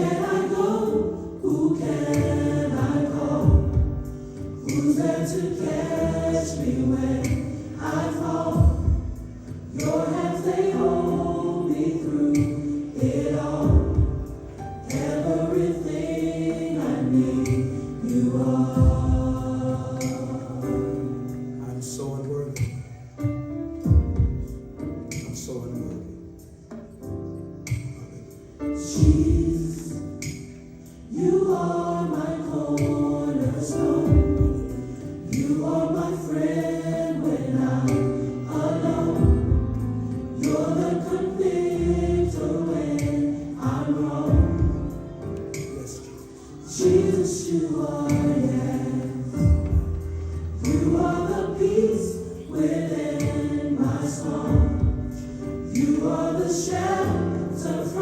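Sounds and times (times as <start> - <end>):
choir singing gospel: 0.0 - 58.0.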